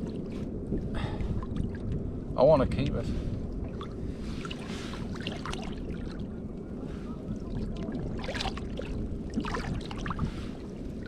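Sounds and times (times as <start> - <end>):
wind and water wash: 0.0 - 11.0.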